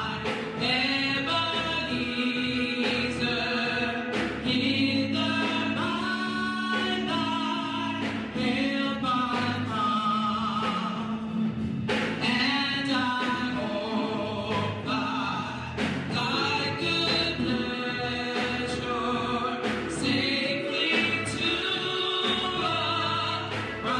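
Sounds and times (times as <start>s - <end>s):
gospel choir singing: 0.0s - 23.9s.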